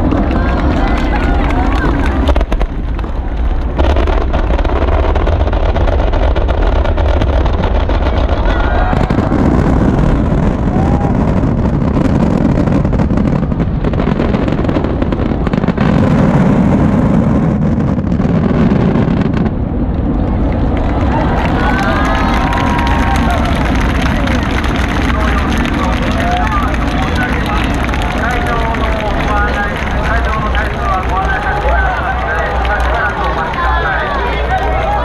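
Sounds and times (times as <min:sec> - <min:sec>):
fireworks booming and crackling: 0:00.0 - 0:35.0.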